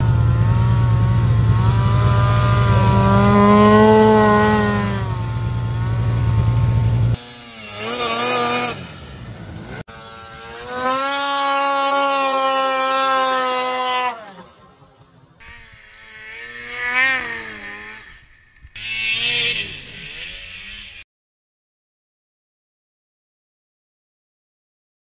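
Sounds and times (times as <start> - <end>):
snowmobile engine revving: 0.0 - 21.0.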